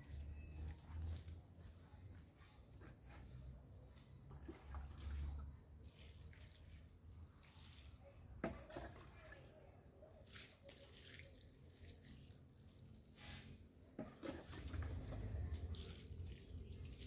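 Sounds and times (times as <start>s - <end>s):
liquid trickling and splashing: 0.0s - 2.4s, 3.4s - 17.0s.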